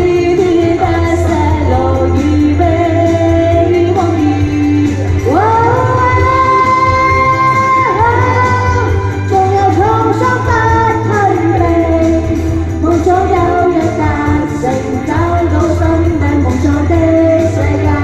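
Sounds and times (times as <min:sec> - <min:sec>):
amplified backing music with bass: 0:00.0 - 0:18.0
women singing pop song: 0:00.0 - 0:18.0.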